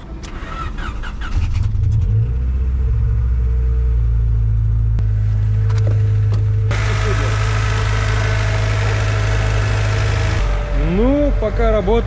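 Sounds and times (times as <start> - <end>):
car engine starting and idling: 0.0 - 12.0.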